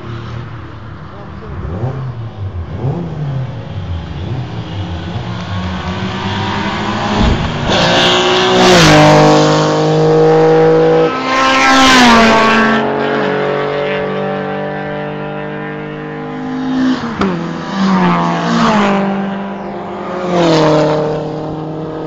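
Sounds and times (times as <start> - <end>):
race cars passing at speed: 0.0 - 22.0.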